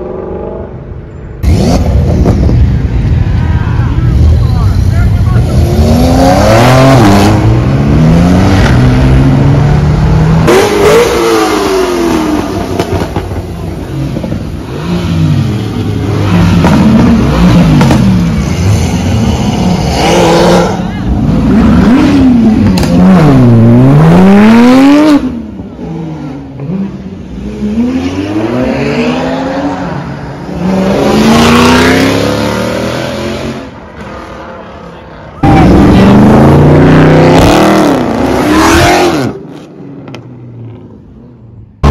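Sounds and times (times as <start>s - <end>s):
cars accelerating hard: 0.0s - 3.5s, 4.1s - 41.0s
engines revving through gear changes: 1.4s - 2.6s, 5.4s - 33.7s, 35.4s - 40.2s.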